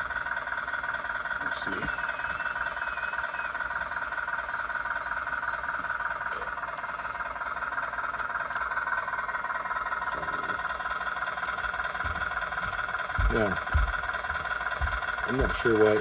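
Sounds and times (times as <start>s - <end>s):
simulated diesel engine idle: 0.0s - 16.0s.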